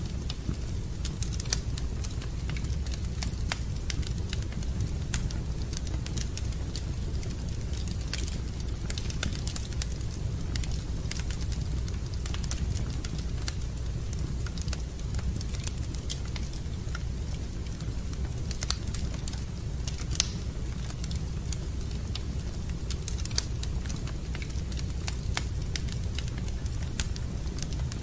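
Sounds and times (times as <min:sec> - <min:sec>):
low fire rumble: 0:00.0 - 0:28.0
wood fire crackling: 0:00.0 - 0:28.0.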